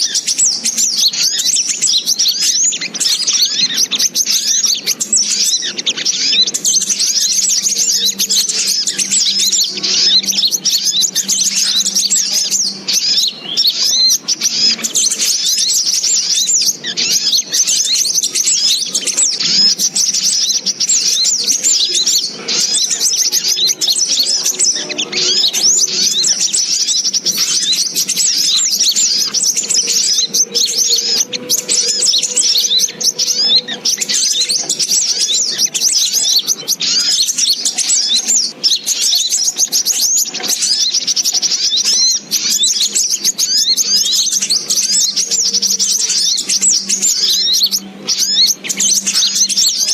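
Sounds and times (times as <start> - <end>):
bird rapid high chirps: 0.0 - 49.9.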